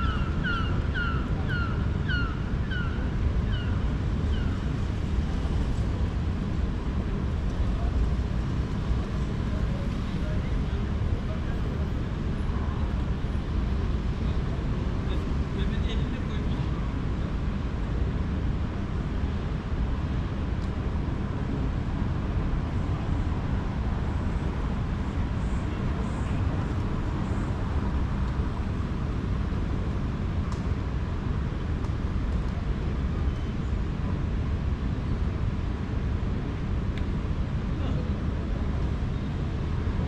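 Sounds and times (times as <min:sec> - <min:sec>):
city traffic rumble: 0:00.0 - 0:40.0.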